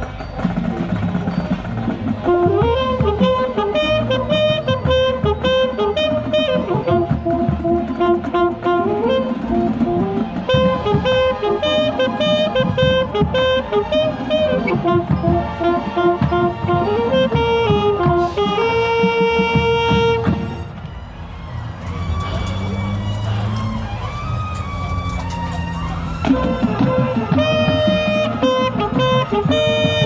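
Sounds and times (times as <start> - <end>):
marching band playing: 0.0 - 30.0
saxophone melody: 1.9 - 20.8, 22.0 - 30.0.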